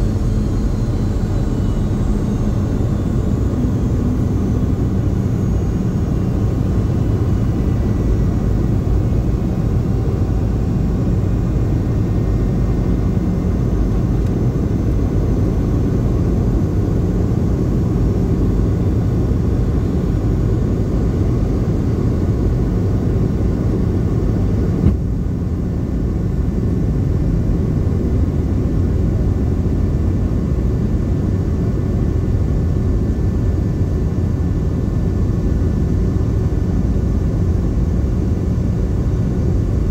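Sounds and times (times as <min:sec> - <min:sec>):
aircraft cabin engine rumble: 0:00.0 - 0:39.9
high engine whine: 0:00.0 - 0:39.9.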